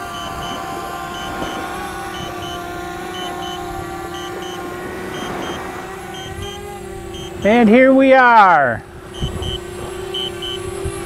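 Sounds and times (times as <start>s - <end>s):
drone propellers whining: 0.0s - 11.0s
short high beeps: 0.1s - 7.6s, 9.1s - 10.7s.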